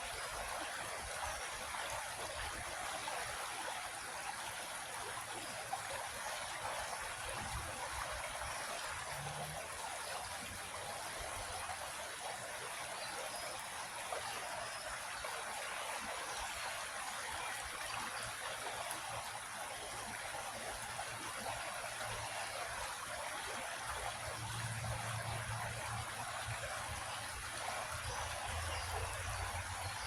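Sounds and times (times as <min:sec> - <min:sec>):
creek trickling over stones: 0:00.0 - 0:30.0.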